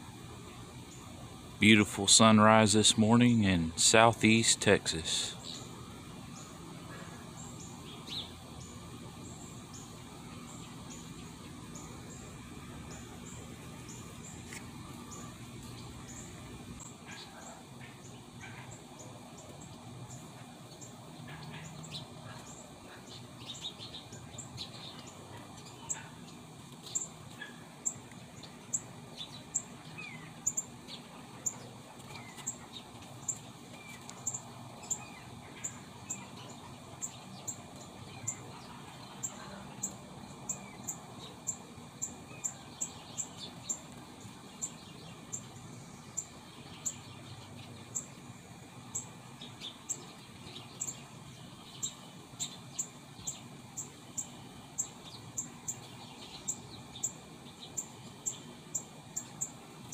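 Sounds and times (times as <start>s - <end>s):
high chip bird calls: 0.8s - 59.9s.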